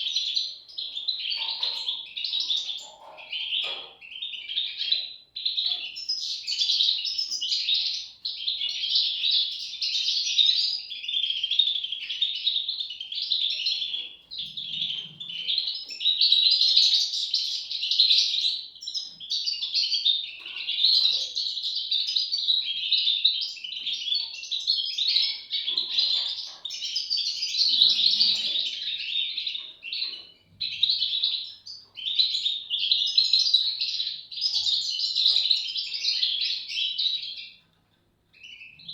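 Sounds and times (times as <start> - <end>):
bird chicks chirping: 0.0 - 38.9.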